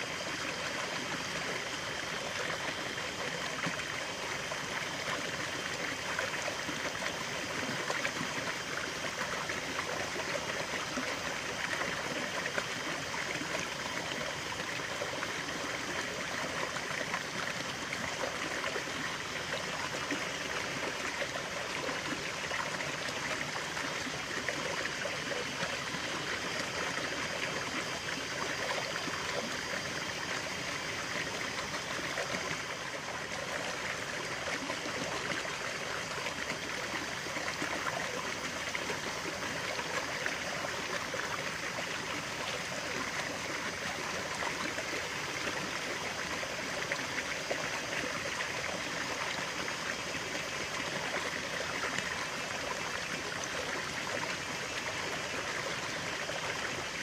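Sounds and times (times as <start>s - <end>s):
stream of water babbling: 0.0s - 57.0s.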